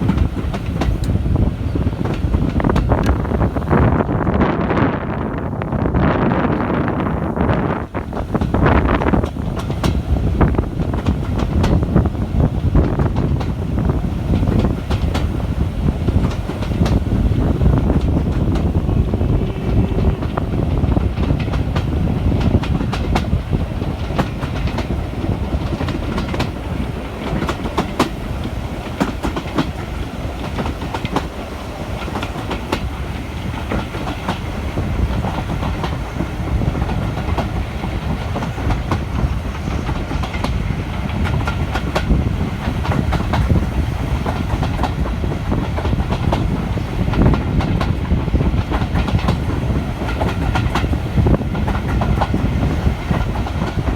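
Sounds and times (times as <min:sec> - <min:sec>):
rail joint clicks and knocks: 0:00.0 - 0:04.7, 0:05.7 - 0:53.9
train wheels rumbling on rail: 0:00.0 - 0:53.9.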